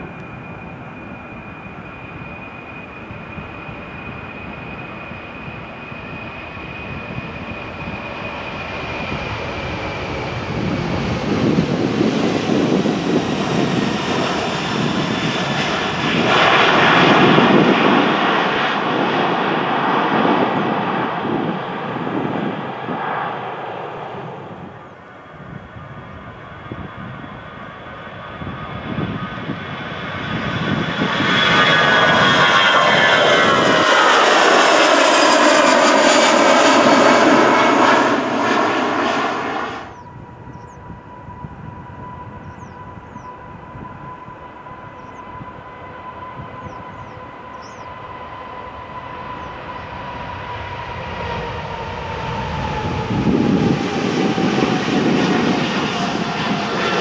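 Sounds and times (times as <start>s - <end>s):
jet airliner taking off: 0.0s - 57.0s
jet engine whine: 0.0s - 57.0s.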